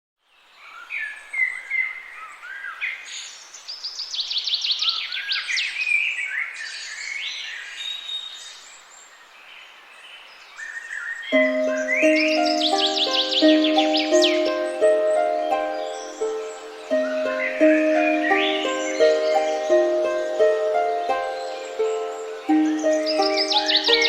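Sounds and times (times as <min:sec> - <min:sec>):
songbirds singing: 0:00.2 - 0:24.0.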